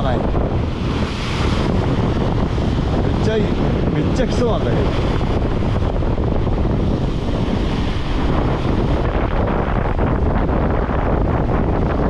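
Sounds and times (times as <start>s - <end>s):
sea waves breaking over rocks: 0.0s - 12.0s
wind buffeting microphone: 0.0s - 12.0s.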